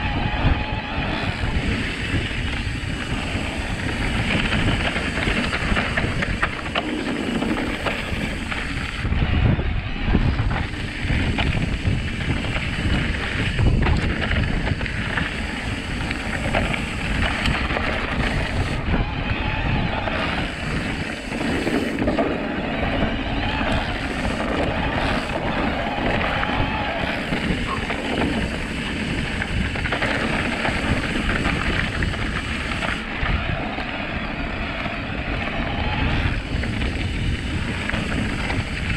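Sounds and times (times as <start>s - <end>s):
bike tyres rumbling on trail: 0.0s - 38.9s
wind on microphone: 0.0s - 38.9s.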